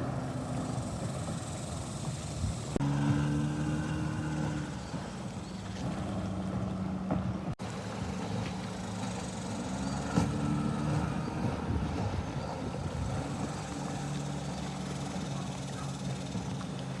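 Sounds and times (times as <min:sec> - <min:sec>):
outboard motor running at speed: 0:00.0 - 0:17.0.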